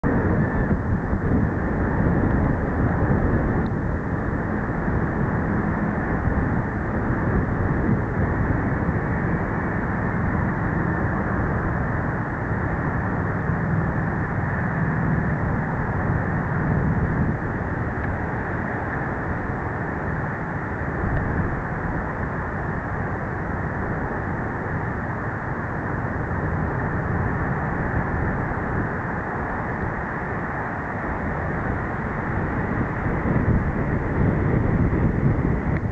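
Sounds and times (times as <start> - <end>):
jet landing roar: 0.0 - 35.9
wind noise: 0.0 - 35.9.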